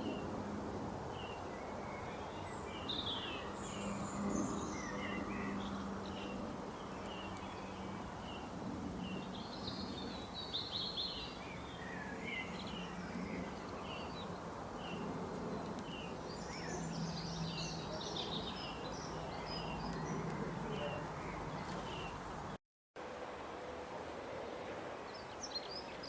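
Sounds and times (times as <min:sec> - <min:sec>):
songbirds chirping: 0:00.0 - 0:22.6, 0:24.3 - 0:26.0.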